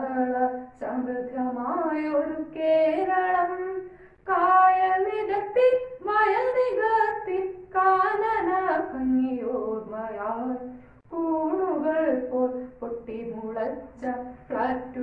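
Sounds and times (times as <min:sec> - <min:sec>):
boy singing unaccompanied: 0:00.0 - 0:15.0.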